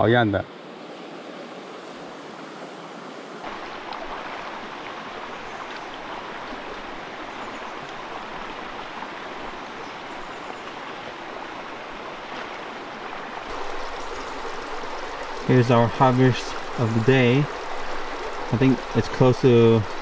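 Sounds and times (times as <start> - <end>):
shallow river flowing: 0.5 - 20.0.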